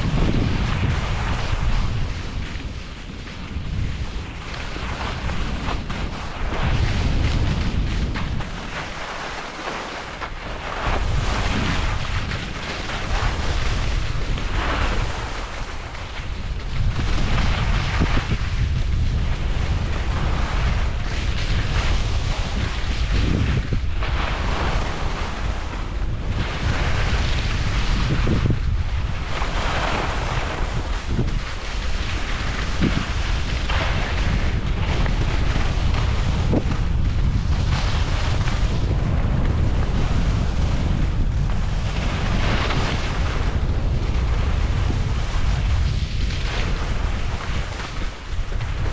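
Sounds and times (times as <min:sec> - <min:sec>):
skis scraping across snow: 0:00.0 - 0:48.9
wind rushing over microphone: 0:00.0 - 0:48.9.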